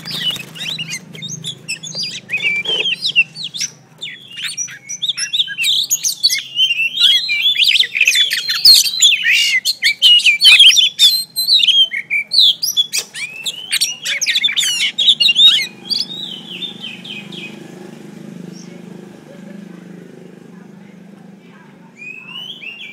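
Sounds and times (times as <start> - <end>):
bird singing whistled notes: 0.0 - 17.6, 22.0 - 22.9.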